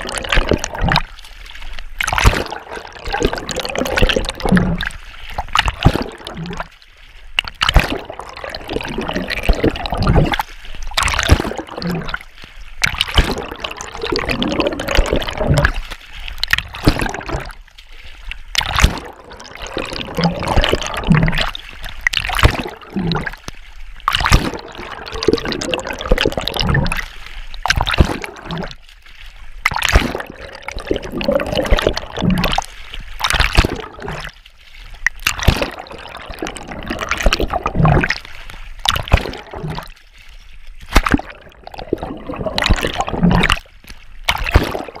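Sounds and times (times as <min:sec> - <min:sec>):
swimming splashes: 0:00.0 - 0:45.0
underwater bubbling and gurgling: 0:00.0 - 0:45.0.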